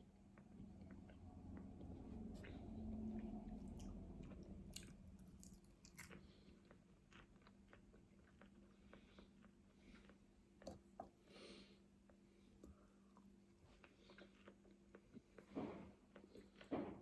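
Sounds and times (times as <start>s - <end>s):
chewing food: 0.1s - 11.0s, 12.0s - 16.9s.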